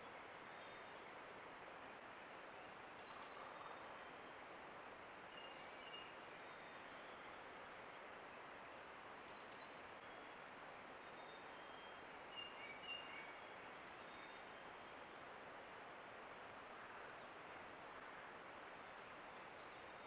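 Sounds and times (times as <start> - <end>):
flowing creek water: 0.0 - 20.0.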